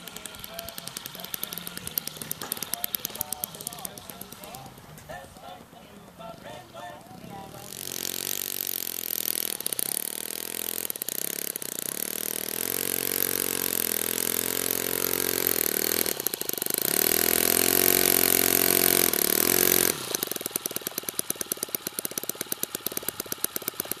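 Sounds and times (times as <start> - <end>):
model airplane engine running: 0.0 - 24.0.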